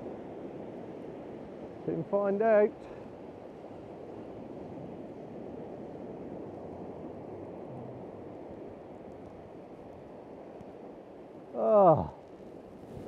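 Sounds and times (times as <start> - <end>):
small waves breaking on shore: 0.0 - 13.0
wind on microphone: 0.0 - 13.0.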